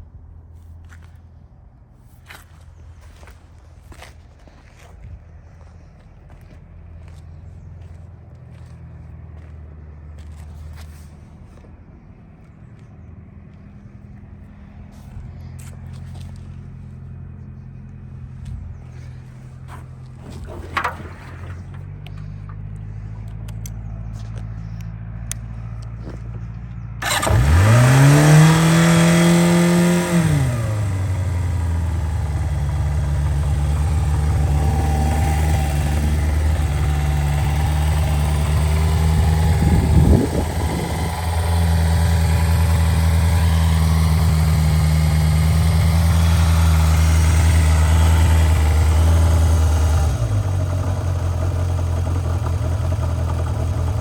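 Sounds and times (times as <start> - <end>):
motorcycle engine starting and idling: 2.2 - 54.0.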